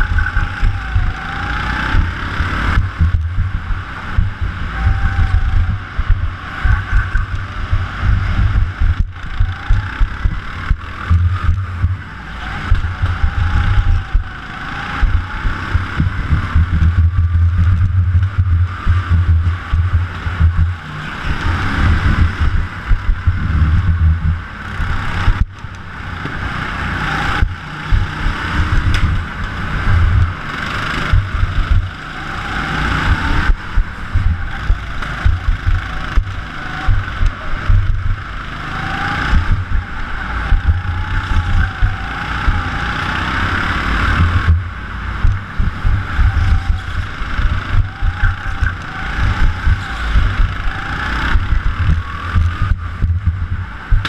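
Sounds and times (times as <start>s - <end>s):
go-kart engine note: 0.0s - 54.0s
go-kart rumbling: 0.0s - 54.0s.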